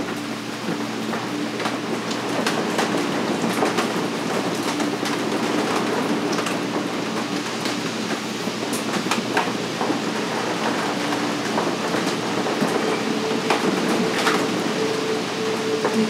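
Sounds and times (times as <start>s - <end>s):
rain drops ticking on glass: 0.0s - 16.0s.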